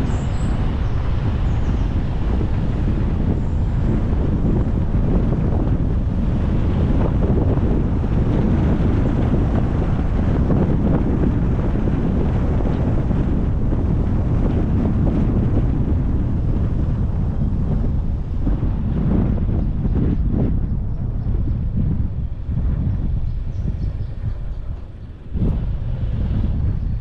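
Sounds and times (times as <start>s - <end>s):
road noise rumble: 0.0s - 27.0s
wind rushing over microphone: 0.0s - 27.0s.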